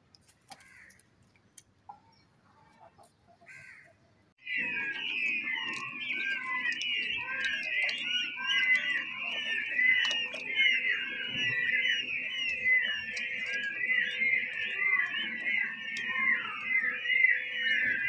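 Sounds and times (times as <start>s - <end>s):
peachicks peeping: 0.5s - 18.0s.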